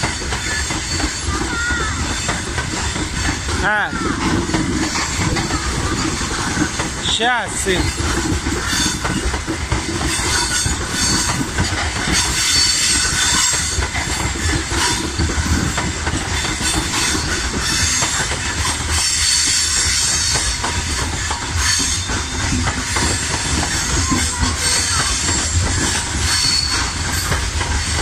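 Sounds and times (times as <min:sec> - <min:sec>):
freight train wheels rumbling: 0:00.0 - 0:28.0
high wheel squeal: 0:00.0 - 0:28.0
wagons clattering: 0:00.0 - 0:28.0.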